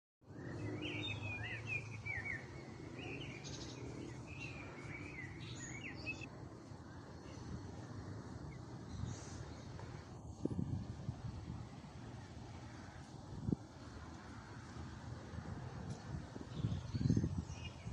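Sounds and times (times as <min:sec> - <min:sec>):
songbirds chirping: 0:00.2 - 0:17.9.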